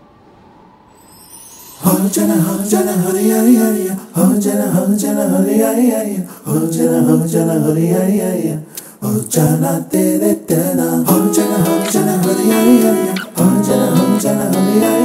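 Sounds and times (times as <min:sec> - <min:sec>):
person singing: 0:01.8 - 0:15.0.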